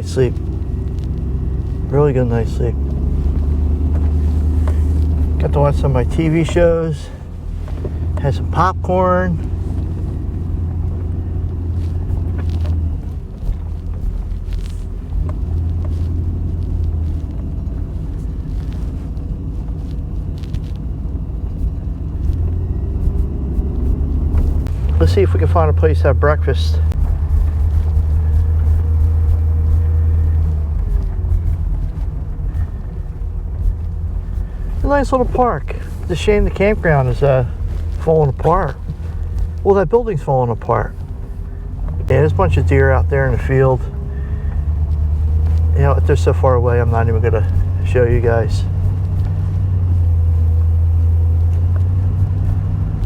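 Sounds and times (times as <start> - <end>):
pickup truck engine and road rumble: 0.0 - 53.0.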